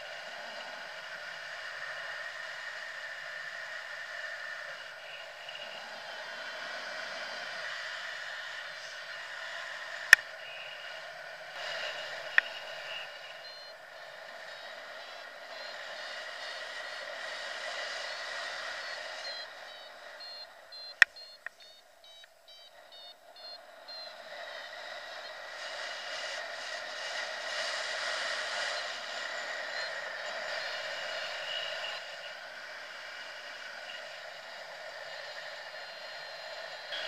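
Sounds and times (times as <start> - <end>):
rapid high variometer beeps: 0.0 - 37.0.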